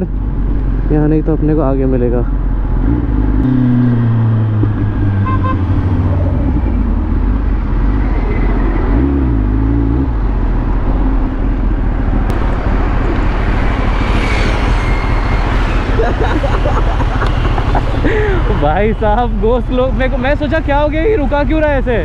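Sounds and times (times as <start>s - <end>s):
road noise: 0.0s - 22.0s
surrounding traffic: 0.0s - 22.0s
motorcycle engine: 2.3s - 21.1s.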